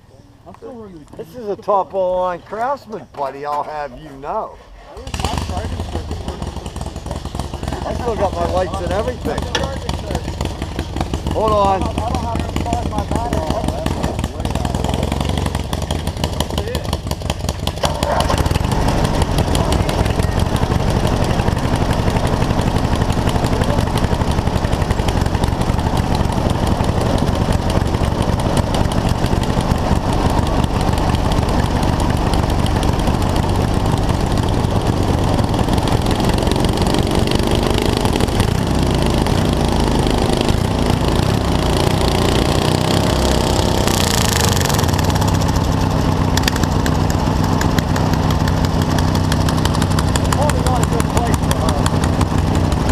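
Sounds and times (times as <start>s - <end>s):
lawn tractor engines running: 0.0s - 52.9s.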